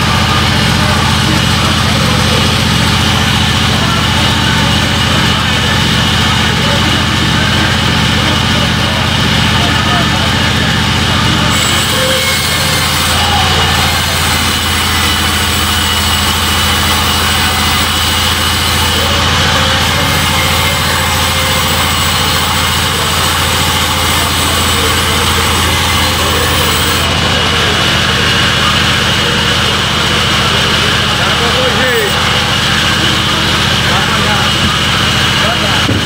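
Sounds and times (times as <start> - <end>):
band saw cutting log: 0.0 - 36.0.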